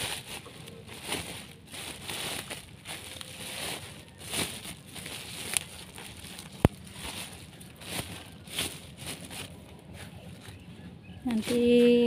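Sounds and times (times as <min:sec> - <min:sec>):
sack rustling and crinkling: 0:00.0 - 0:10.4.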